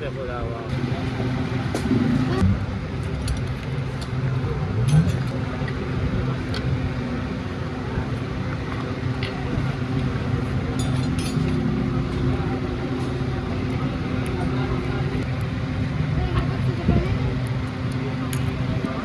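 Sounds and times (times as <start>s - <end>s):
engine running: 0.6s - 19.0s.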